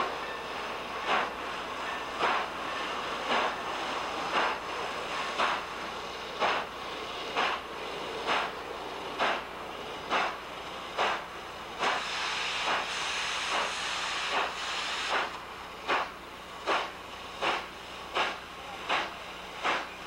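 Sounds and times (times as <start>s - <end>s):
hiss of steam: 0.0s - 20.0s
steam locomotive exhaust chuffing: 0.0s - 20.0s.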